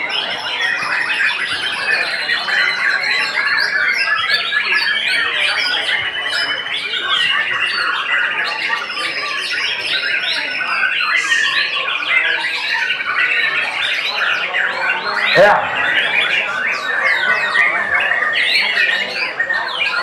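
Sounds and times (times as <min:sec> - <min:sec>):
birds singing whistles and chirps: 0:00.0 - 0:20.0.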